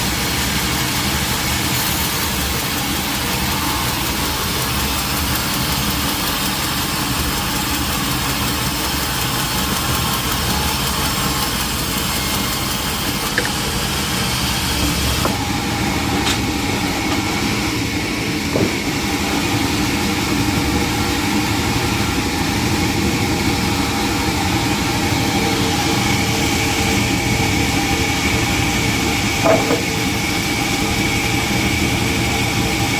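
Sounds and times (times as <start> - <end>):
sawmill machinery running: 0.0 - 32.9.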